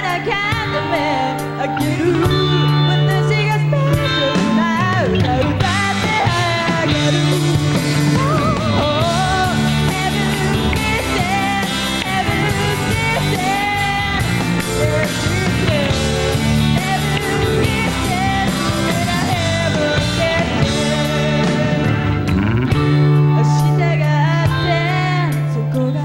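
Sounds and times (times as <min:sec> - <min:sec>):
woman singing into a microphone: 0:00.0 - 0:22.1, 0:23.2 - 0:26.0
rock band playing: 0:00.0 - 0:26.0.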